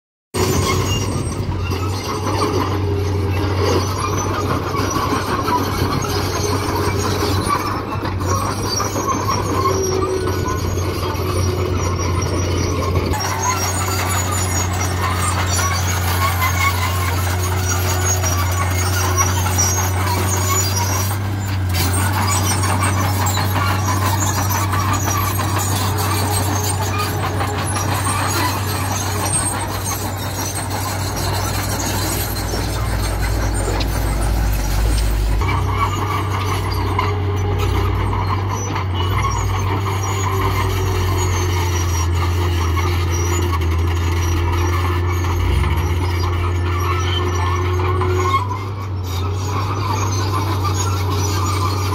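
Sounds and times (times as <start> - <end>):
bulldozer diesel engine: 0.3 - 51.9
steel tracks clattering and squealing: 0.4 - 51.9.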